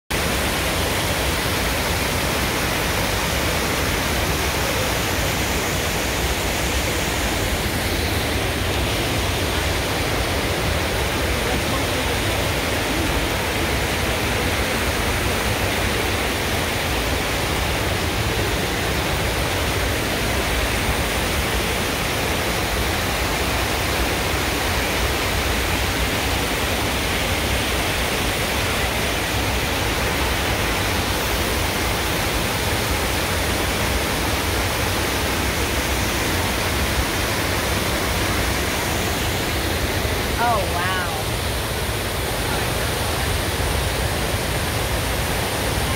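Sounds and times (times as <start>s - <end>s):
whitewater roaring: 0.1s - 45.9s.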